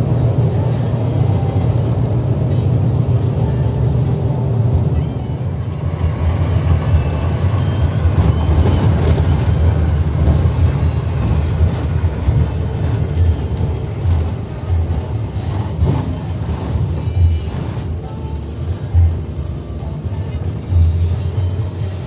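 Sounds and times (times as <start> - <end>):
bus engine drone: 0.0 - 22.0
road rumble: 0.0 - 22.0.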